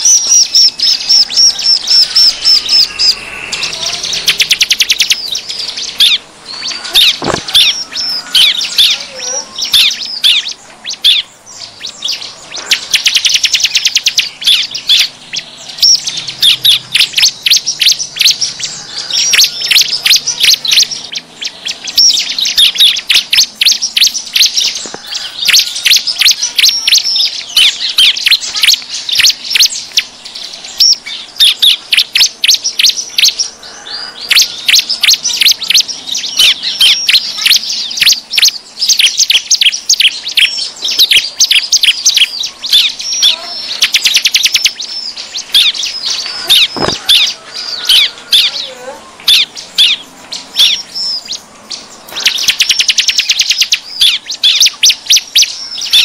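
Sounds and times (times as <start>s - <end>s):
bird calling with sharp chirps: 0.0s - 56.0s.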